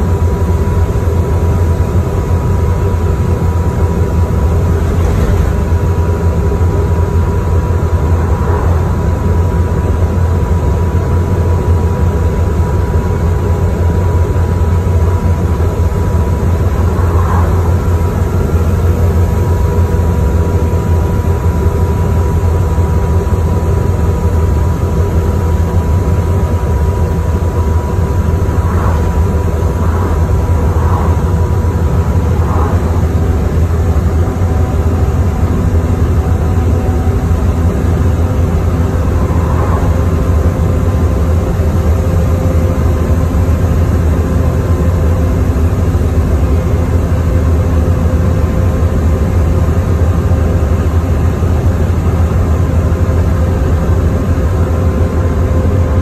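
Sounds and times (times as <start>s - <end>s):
bus engine and road drone: 0.0s - 56.0s
constant high whine: 0.0s - 56.0s.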